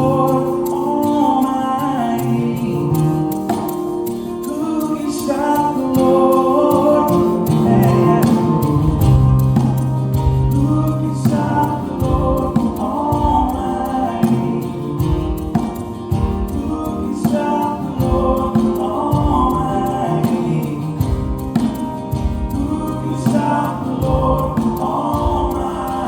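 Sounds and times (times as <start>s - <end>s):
worship song with singing: 0.0s - 26.0s.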